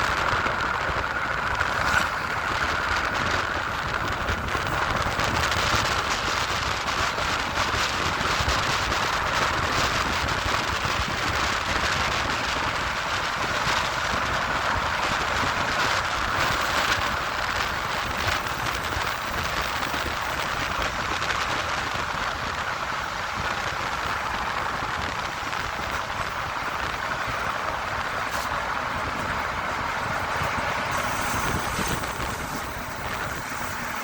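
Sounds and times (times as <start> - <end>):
train running on track: 0.0 - 34.0.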